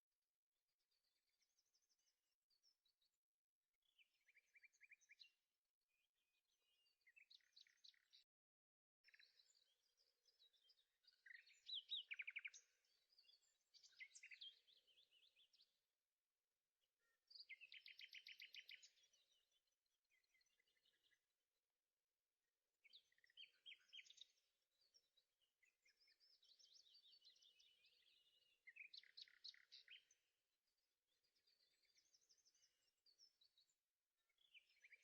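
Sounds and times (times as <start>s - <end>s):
faint birdsong chirps and trills: 0.0s - 35.0s.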